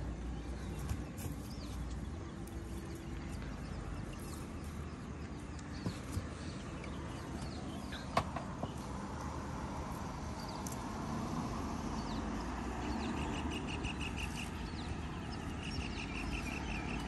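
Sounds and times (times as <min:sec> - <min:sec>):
steady outdoor background: 0:00.0 - 0:17.0.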